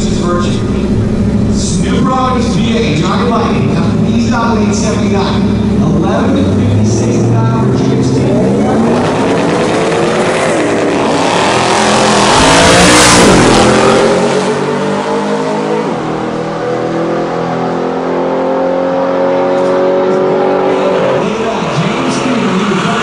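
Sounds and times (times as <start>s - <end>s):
racing engines accelerating: 0.0s - 23.0s.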